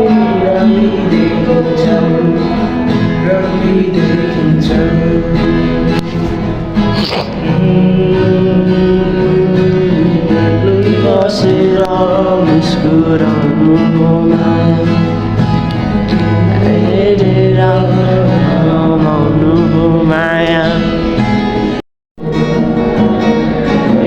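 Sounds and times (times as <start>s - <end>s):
song with plucked strings: 0.0s - 16.9s, 20.8s - 24.0s.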